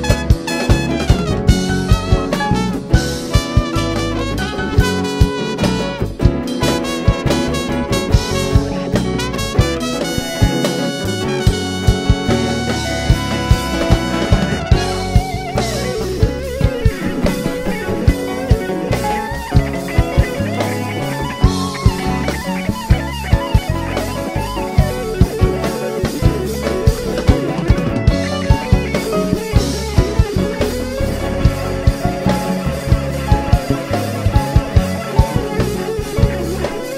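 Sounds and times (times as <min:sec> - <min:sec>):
bass: 0:00.0 - 0:36.9
drum kit: 0:00.0 - 0:36.9
electric guitar lead with bends: 0:00.0 - 0:36.9
percussion: 0:00.0 - 0:36.9.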